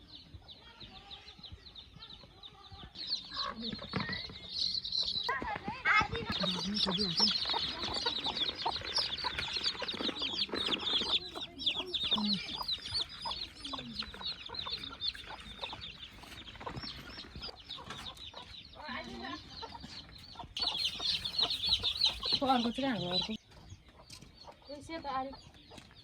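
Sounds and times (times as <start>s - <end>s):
chickens clucking and cheeping: 0.0s - 26.0s.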